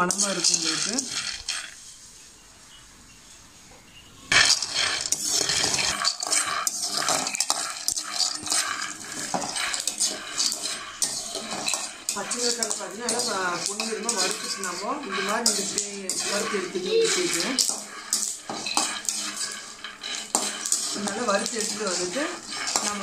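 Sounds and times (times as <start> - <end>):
peanuts rattling in pan: 0.0 - 2.0, 4.3 - 23.0
metal spatula scraping pan: 0.0 - 2.1, 4.3 - 23.0.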